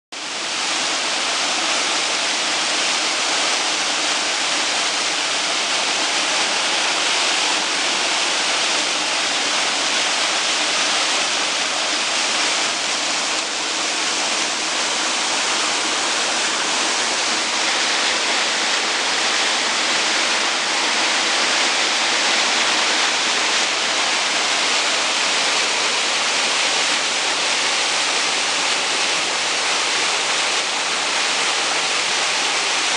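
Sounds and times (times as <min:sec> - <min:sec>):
waterfall rushing: 0:00.2 - 0:32.9.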